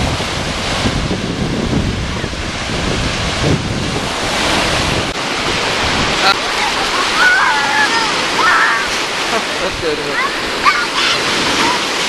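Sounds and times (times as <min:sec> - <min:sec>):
waves breaking in shallows: 0:00.0 - 0:12.0
wind buffeting microphone: 0:00.0 - 0:12.0.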